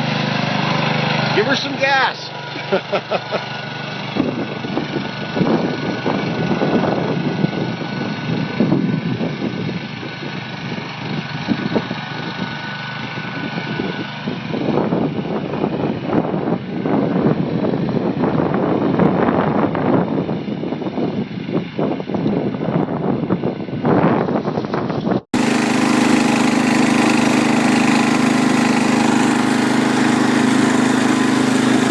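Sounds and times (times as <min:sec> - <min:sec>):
garden tractor engine running: 0:00.0 - 0:19.0, 0:24.3 - 0:31.9.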